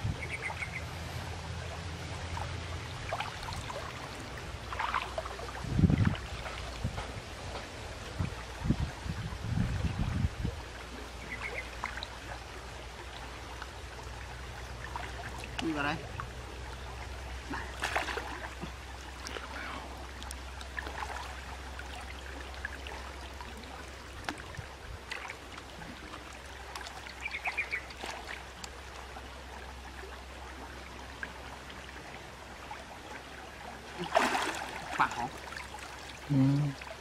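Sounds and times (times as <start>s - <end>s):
river water sloshing and trickling: 0.0s - 37.0s
water splashes: 0.0s - 37.0s.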